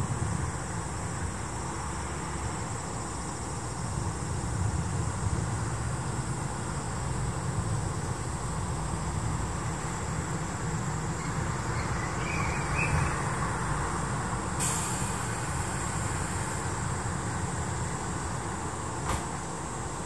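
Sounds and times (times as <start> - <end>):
high hiss: 0.0 - 20.0.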